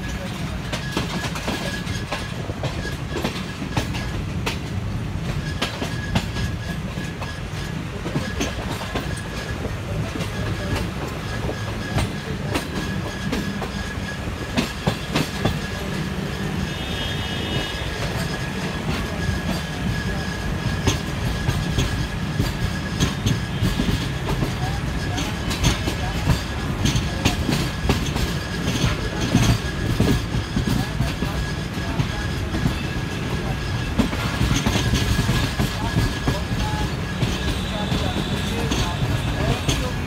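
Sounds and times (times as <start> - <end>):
train rumbling: 0.0 - 40.0
wheels clacking over rail joints: 0.0 - 40.0.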